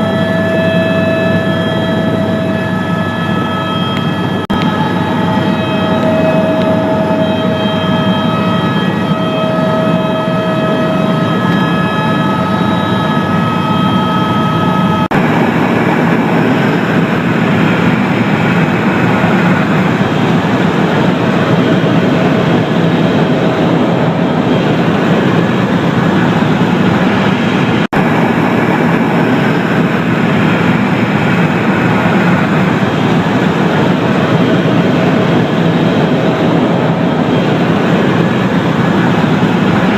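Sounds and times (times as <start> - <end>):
helicopter rotor and engine drone: 0.0 - 39.9
steady whining tones: 0.0 - 39.9.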